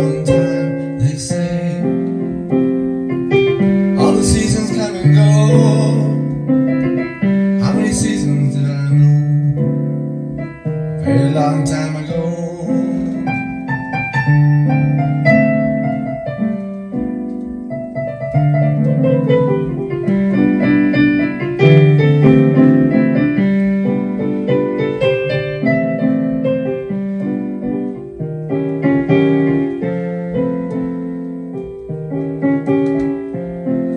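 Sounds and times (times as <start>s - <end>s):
digital piano playing slow song: 0.0s - 33.9s.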